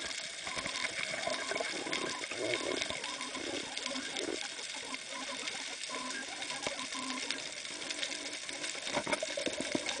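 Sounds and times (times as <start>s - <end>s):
underwater crackle of clicks: 0.0s - 10.0s.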